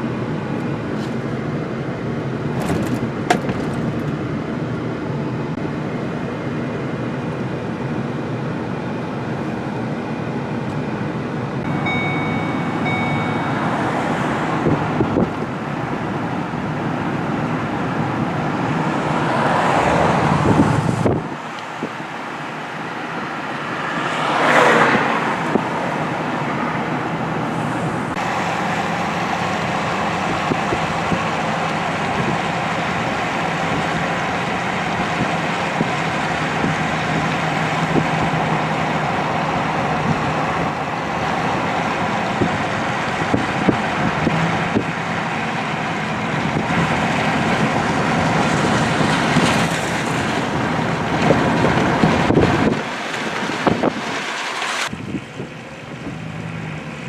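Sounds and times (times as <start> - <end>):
road traffic noise: 0.0 - 57.0
vehicles passing close by: 0.0 - 57.0.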